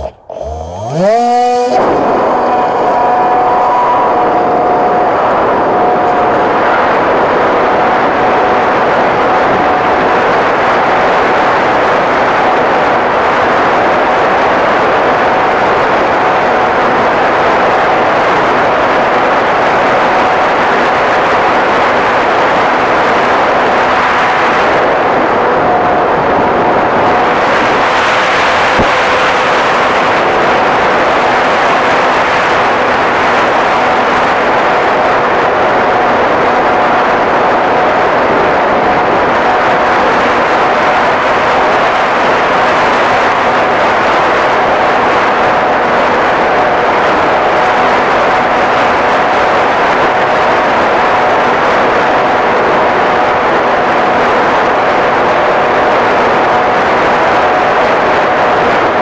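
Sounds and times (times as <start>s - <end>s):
electric motor and propeller drone: 0.0s - 49.3s
wind rush: 1.8s - 59.0s.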